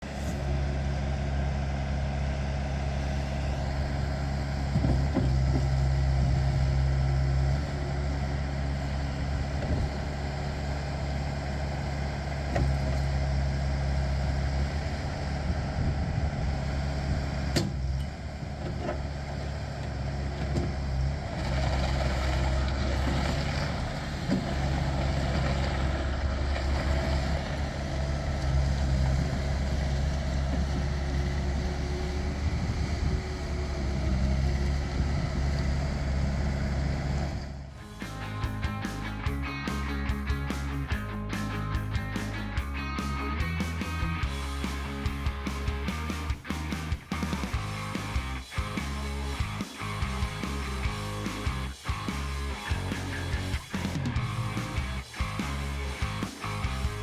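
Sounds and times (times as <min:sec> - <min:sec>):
diesel loader engine running: 0:00.0 - 0:57.0.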